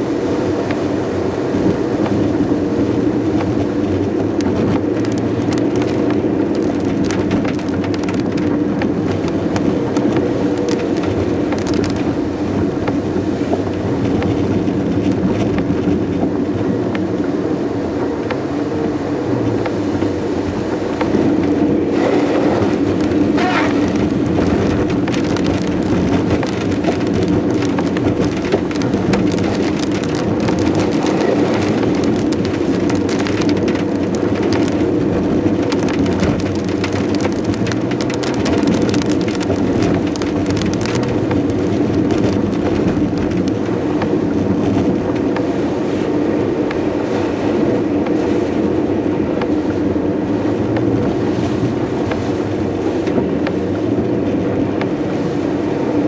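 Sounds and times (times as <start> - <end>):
car engine drone: 0.0 - 56.0
rain pattering on a car: 0.0 - 56.0
tyres on a wet road: 0.0 - 56.0.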